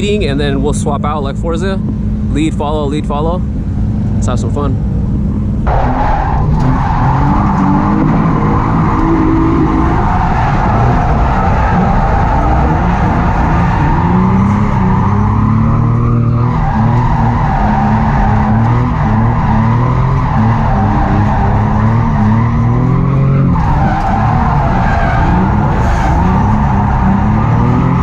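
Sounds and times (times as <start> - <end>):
car engine revving: 0.0 - 28.0
tires screeching: 0.0 - 28.0.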